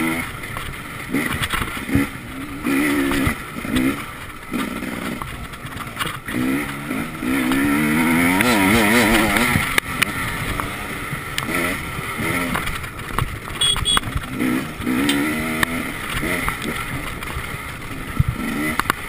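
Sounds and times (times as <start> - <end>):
motorcycle engine revving: 0.0 - 19.0
motorcycle hitting bumps: 0.0 - 19.0.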